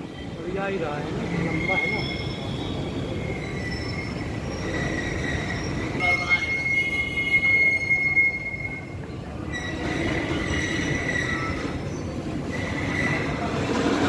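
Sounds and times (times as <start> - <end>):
low rumble of wheels on track: 0.0 - 14.0
train wheels squealing on rails: 0.0 - 14.0.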